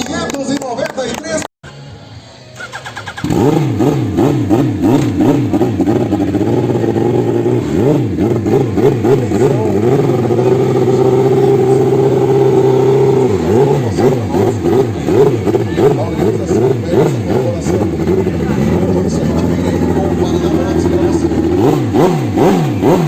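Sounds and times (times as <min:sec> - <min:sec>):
motorcycle engine revving: 0:02.5 - 0:23.0.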